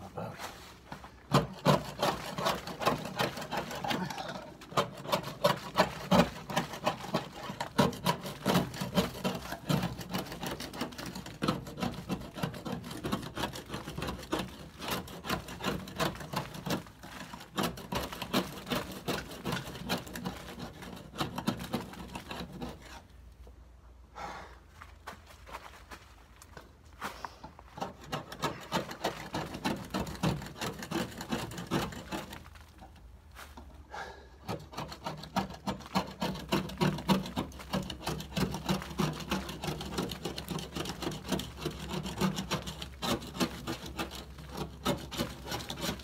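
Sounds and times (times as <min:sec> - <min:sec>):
hand scraper rasping on hull: 0:01.2 - 0:23.2, 0:27.8 - 0:33.1, 0:34.4 - 0:46.0.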